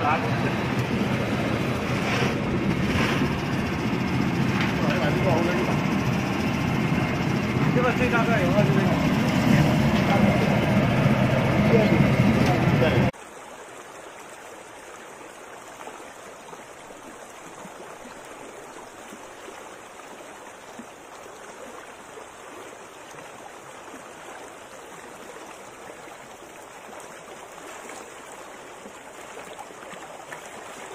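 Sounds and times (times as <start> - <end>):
stream water running over rocks: 0.0 - 30.9.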